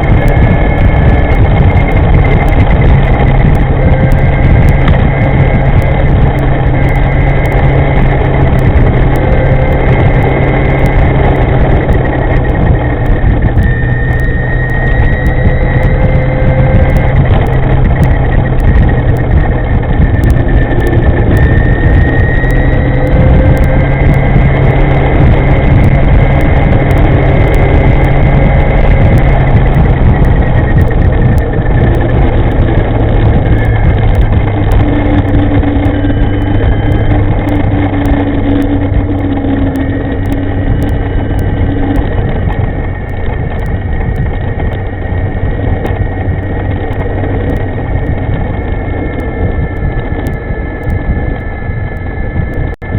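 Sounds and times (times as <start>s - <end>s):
faint whining tones: 0.0s - 52.9s
low hum: 0.0s - 52.9s
wind and road noise: 0.0s - 52.9s.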